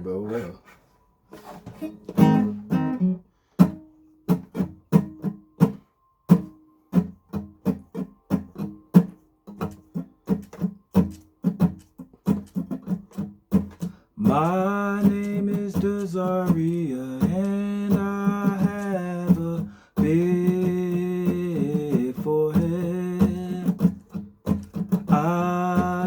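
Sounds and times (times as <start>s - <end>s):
guitar plucked: 1.6s - 26.0s.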